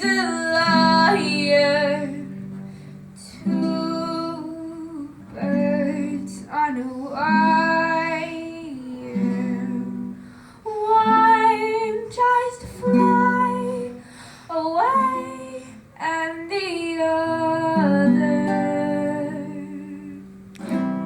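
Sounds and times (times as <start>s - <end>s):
girl singing: 0.0s - 20.8s
acoustic guitar: 0.0s - 21.0s.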